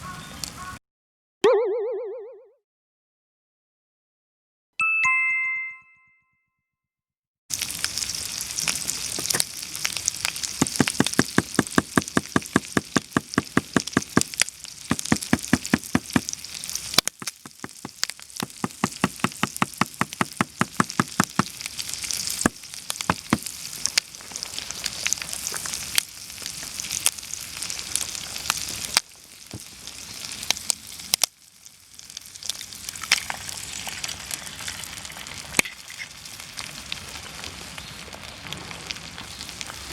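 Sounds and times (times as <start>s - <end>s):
bacon sizzling in a skillet: 7.5s - 39.9s.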